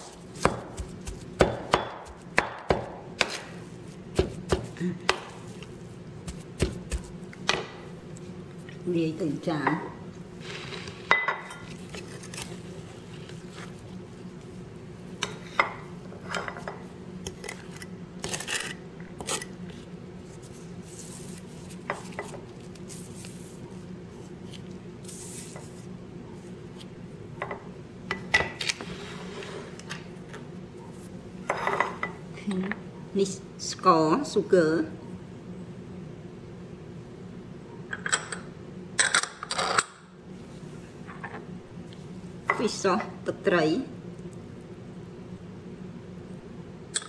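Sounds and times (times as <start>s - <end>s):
steady low hum: 0.0s - 39.4s.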